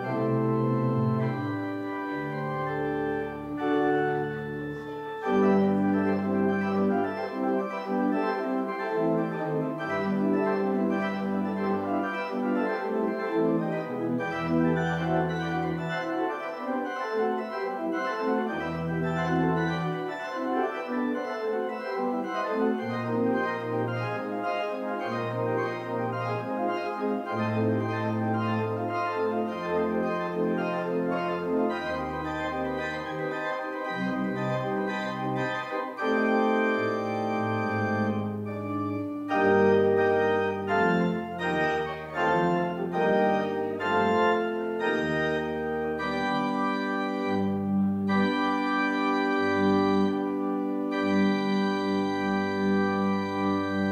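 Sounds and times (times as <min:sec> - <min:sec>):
pipe organ chords: 0:00.0 - 0:53.9.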